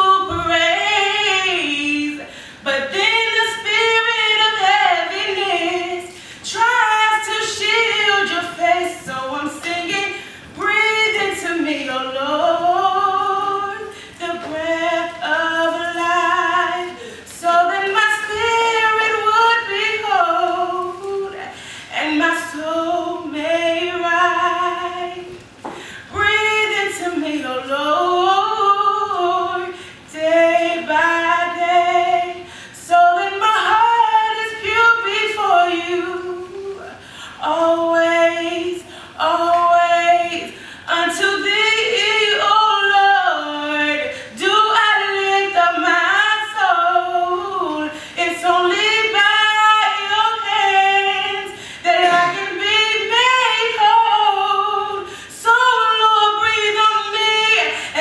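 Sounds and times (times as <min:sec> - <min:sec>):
woman singing gospel solo: 0:00.0 - 0:58.0.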